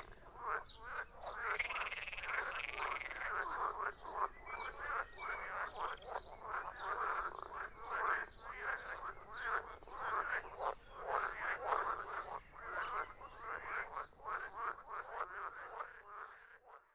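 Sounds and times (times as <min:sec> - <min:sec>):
frogs croaking: 0:00.0 - 0:16.9.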